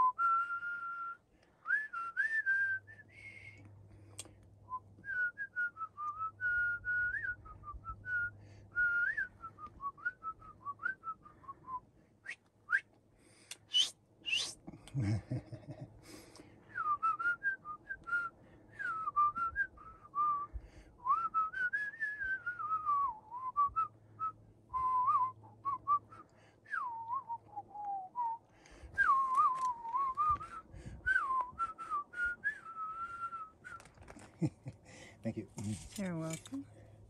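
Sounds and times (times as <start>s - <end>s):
person whistling a tune: 0.0s - 3.7s, 5.0s - 12.8s, 13.7s - 14.6s, 16.7s - 33.9s.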